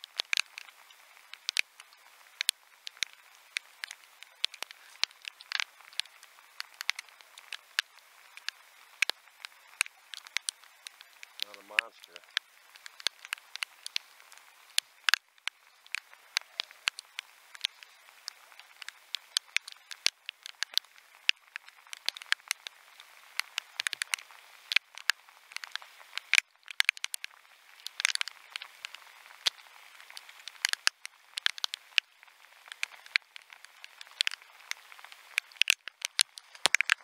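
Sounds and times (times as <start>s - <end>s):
faint rain hiss: 0.0s - 37.0s
raindrops ticking on camera: 0.0s - 37.0s.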